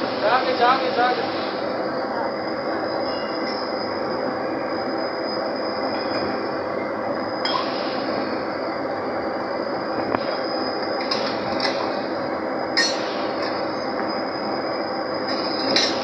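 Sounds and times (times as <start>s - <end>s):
high whine: 0.0s - 16.0s.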